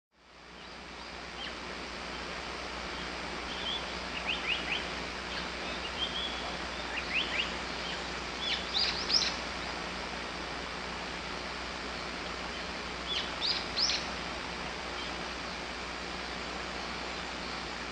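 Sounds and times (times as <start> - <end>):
steady outdoor hiss: 0.1 - 17.9
wild birds chirping: 0.4 - 17.9.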